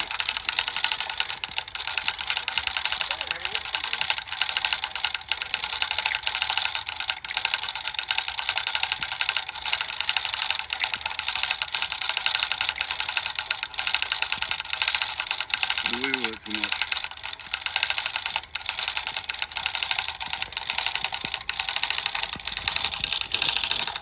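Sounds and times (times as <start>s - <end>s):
chain hoist ratcheting clicks: 0.0s - 24.0s.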